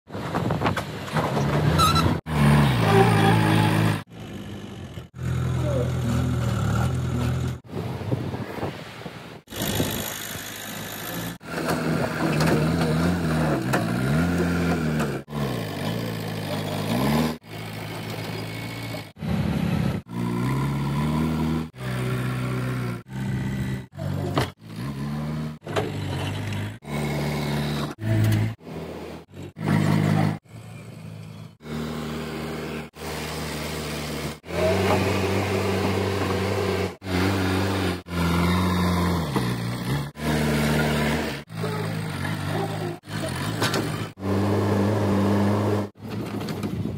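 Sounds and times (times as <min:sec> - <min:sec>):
diesel engines revving: 0:00.2 - 0:07.8, 0:09.4 - 0:46.9.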